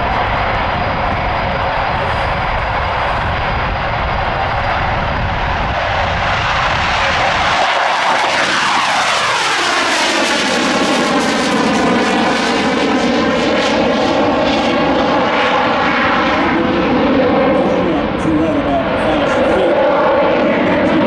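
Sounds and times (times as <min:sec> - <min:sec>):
jet engine roar and whine: 0:00.0 - 0:21.0.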